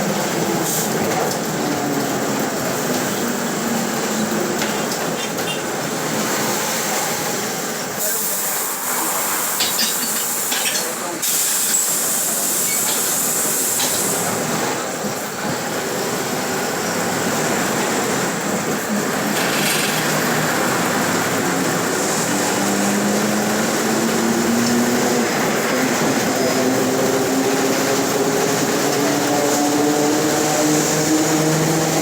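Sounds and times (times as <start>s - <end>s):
bus running noise: 0.0s - 32.0s.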